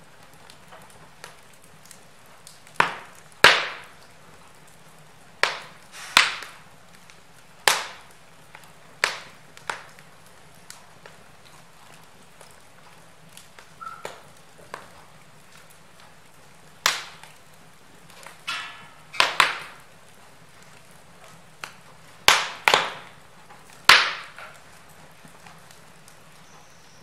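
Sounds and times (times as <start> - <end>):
logs crackling and popping: 0.0 - 27.0.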